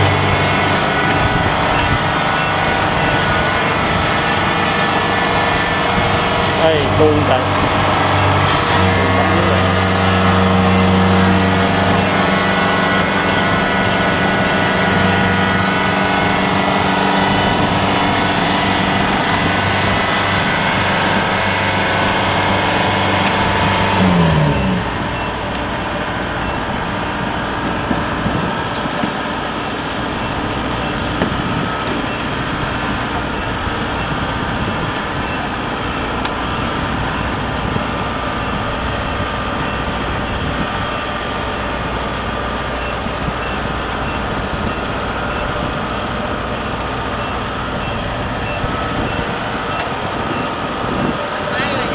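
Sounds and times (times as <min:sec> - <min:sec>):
heavy machine engine running: 0:00.0 - 0:51.9
low rough engine rumble: 0:00.0 - 0:51.9.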